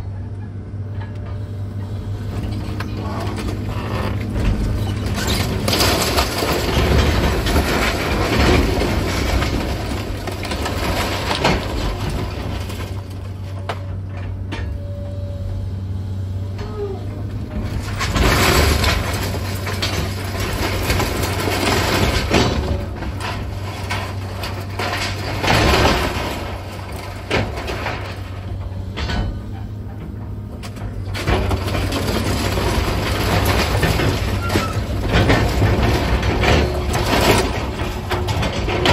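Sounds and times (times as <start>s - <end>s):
excavator diesel engine running: 0.0s - 38.9s
demolition debris crunching: 0.7s - 15.1s, 15.8s - 38.9s.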